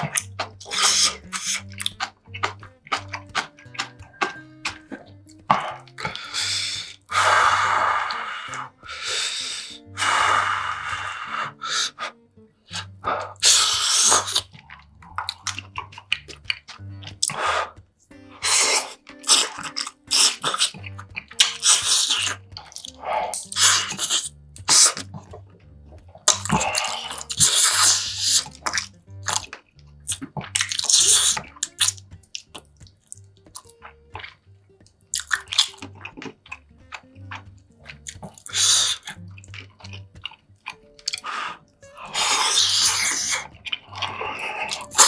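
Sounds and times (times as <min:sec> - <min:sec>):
chewing with short clicks: 0:00.0 - 0:07.2, 0:12.1 - 0:45.0
wet slurps: 0:00.0 - 0:45.0.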